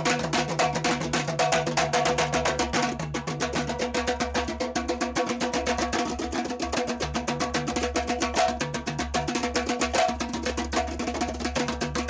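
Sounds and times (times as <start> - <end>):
hand drums playing fast groove: 0.0 - 12.0.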